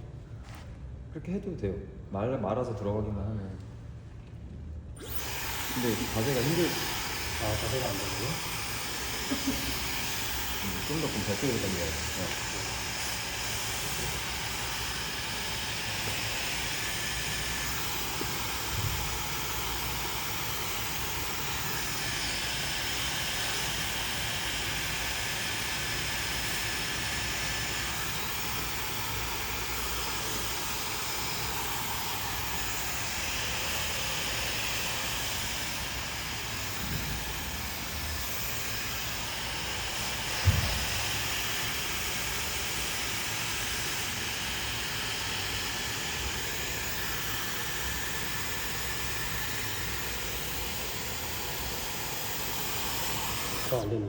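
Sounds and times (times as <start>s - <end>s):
hair dryer blowing: 5.0s - 54.0s.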